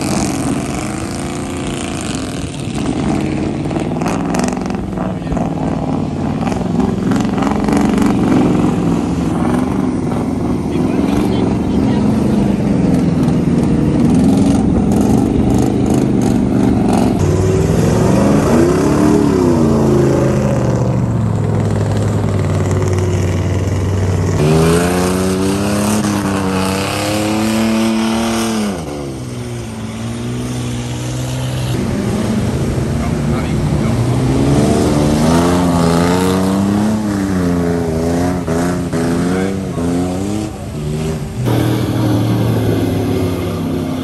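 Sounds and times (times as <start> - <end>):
truck engines revving: 0.0 - 44.0.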